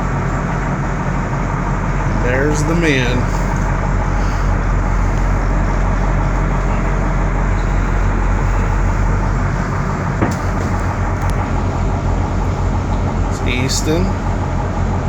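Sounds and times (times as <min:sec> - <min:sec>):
boat engine droning: 0:00.0 - 0:15.0
wind: 0:00.0 - 0:15.0.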